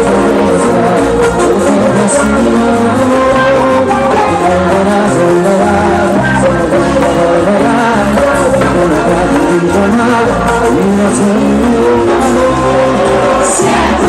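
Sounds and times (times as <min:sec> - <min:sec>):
live band music: 0:00.0 - 0:14.0
person singing: 0:00.0 - 0:14.0.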